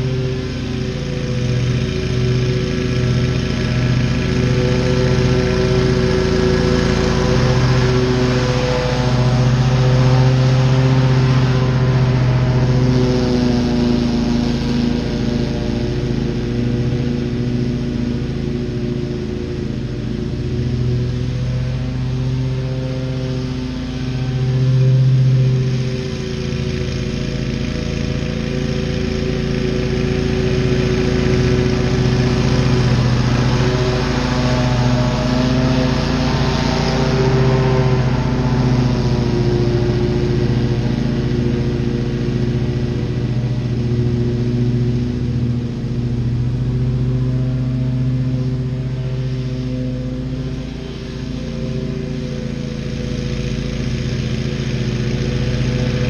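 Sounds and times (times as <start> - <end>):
mower engine drone: 0.0 - 56.0.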